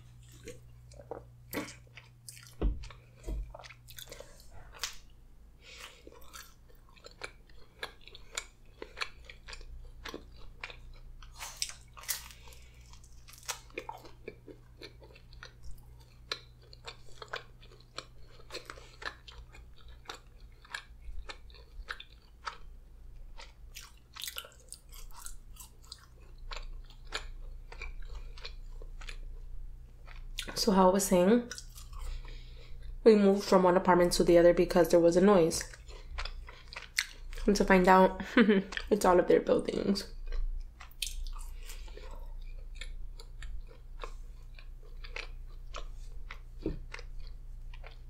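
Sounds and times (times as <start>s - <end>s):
chewing and biting pizza: 0.0s - 30.6s, 31.5s - 33.0s, 35.6s - 37.5s, 40.0s - 48.0s
low electrical hum: 0.0s - 48.0s.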